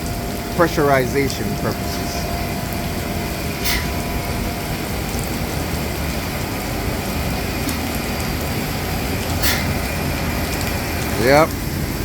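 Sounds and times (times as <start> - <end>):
low rumble: 0.0 - 12.0
steady rain: 0.0 - 12.0.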